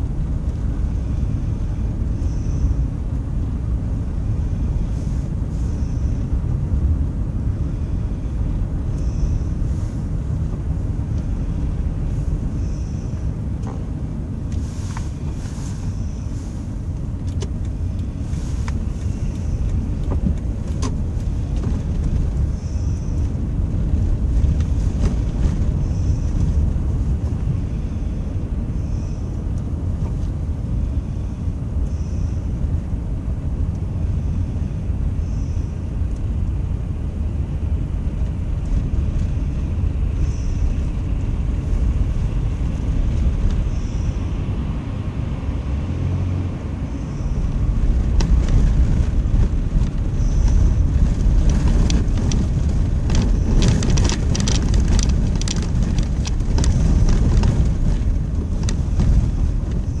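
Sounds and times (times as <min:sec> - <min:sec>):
car road rumble from inside: 0:00.0 - 1:00.0.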